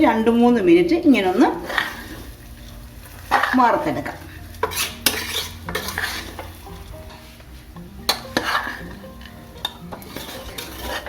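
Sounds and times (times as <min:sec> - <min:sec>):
rice sizzling in a pot: 0:00.0 - 0:11.0
spoon scraping and knocking pot: 0:01.1 - 0:11.0.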